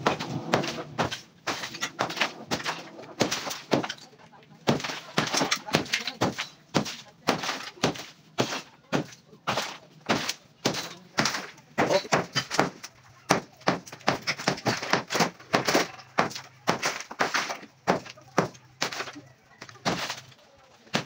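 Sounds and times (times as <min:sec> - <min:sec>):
concrete cracking and breaking: 0:00.0 - 0:08.0, 0:09.0 - 0:21.0.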